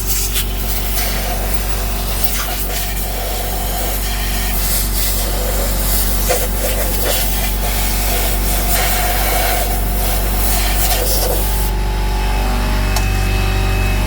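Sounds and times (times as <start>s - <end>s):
compressed air blasting: 0.0s - 11.8s
air compressor humming: 0.0s - 14.0s.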